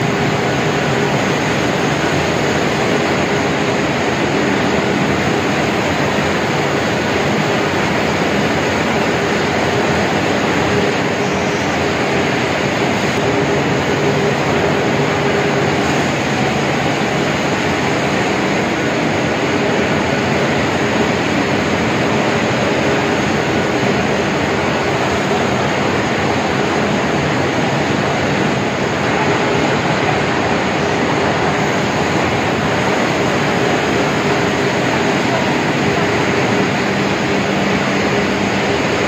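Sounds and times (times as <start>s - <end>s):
conveyor hiss and rumble: 0.0s - 39.0s.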